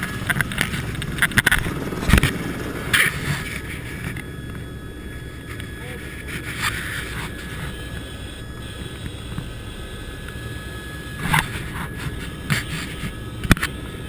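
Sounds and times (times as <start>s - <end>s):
helicopter engine and rotor rumble: 0.0s - 14.0s
high whine: 0.0s - 14.0s.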